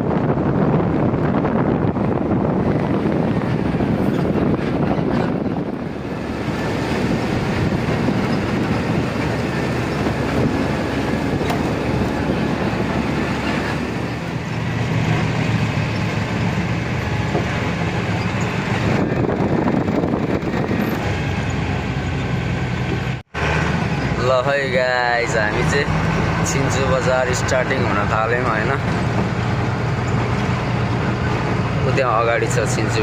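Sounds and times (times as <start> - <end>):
road noise: 0.0 - 33.0
truck engine running: 0.0 - 33.0.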